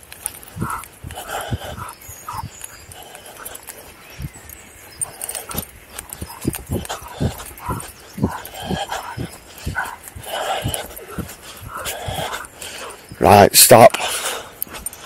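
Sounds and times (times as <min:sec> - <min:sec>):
footsteps on grass: 0:00.0 - 0:13.3.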